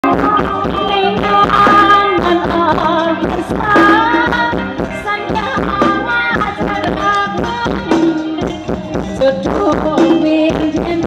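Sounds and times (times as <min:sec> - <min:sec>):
band playing melody: 0:00.0 - 0:11.0
drums keeping even beat: 0:00.0 - 0:11.0.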